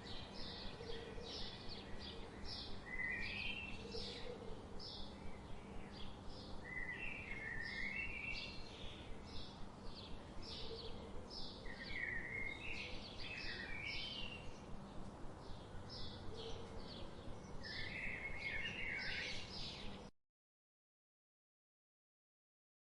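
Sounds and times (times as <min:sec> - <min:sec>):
birds chirping: 0:00.0 - 0:20.1.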